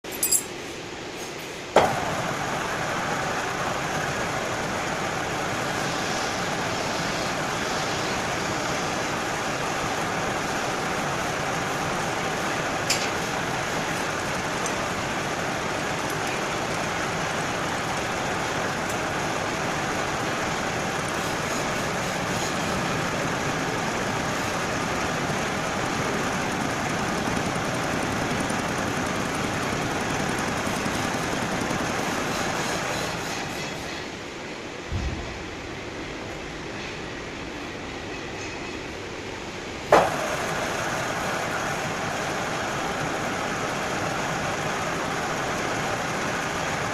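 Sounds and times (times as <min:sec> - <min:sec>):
metal lathe running: 0:01.8 - 0:34.1, 0:39.9 - 0:46.9.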